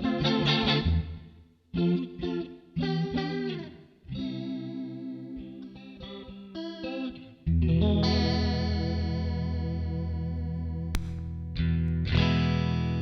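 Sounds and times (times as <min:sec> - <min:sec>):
electric guitar picked notes: 0:00.0 - 0:13.0
electric guitar chord ringing: 0:01.8 - 0:13.0.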